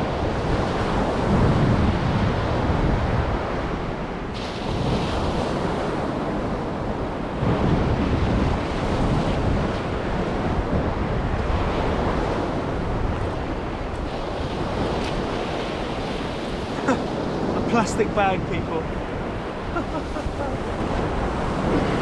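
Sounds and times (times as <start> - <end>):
surf washing on shore: 0.0 - 22.0
wind buffeting microphone: 0.0 - 22.0.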